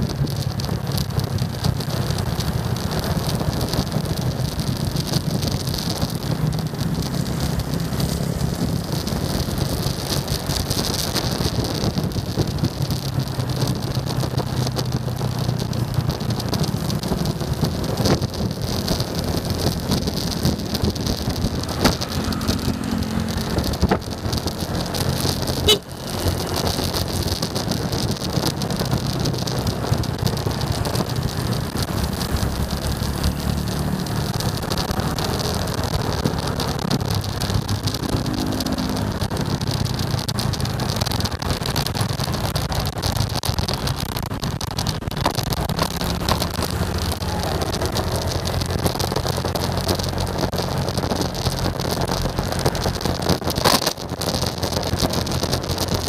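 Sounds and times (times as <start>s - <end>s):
motorcycle engine drone: 0.0s - 56.0s
wind rush on microphone: 0.0s - 56.0s.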